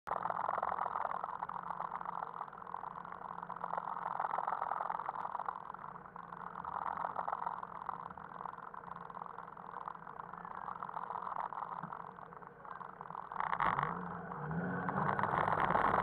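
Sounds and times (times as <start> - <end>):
car engine idling inside cabin: 0.1 - 16.0.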